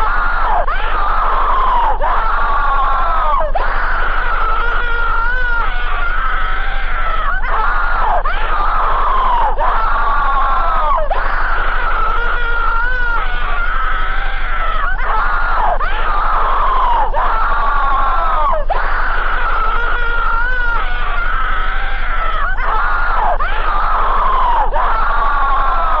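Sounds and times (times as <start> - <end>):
distorted screaming wails: 0.0 - 26.0
steady low hum: 0.0 - 26.0.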